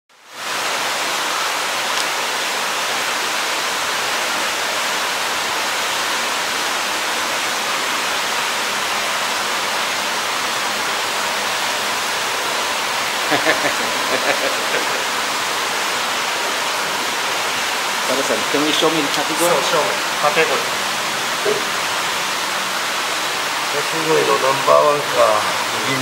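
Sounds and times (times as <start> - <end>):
running water rushing: 0.1 - 26.0.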